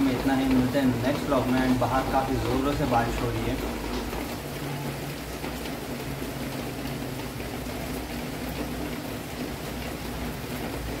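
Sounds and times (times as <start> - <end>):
heavy rain on foliage: 0.0 - 11.0.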